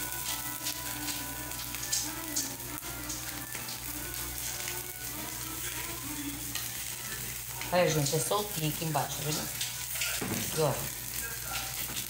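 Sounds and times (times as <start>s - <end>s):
faint background music: 0.0s - 12.0s
food sizzling in a pan: 0.0s - 12.0s.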